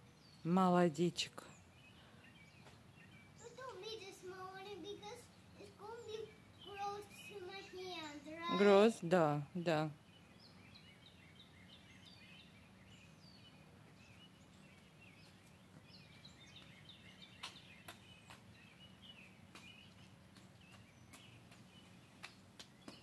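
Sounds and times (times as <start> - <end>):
faint birdsong: 0.0 - 23.0
low steady background hum: 0.0 - 23.0.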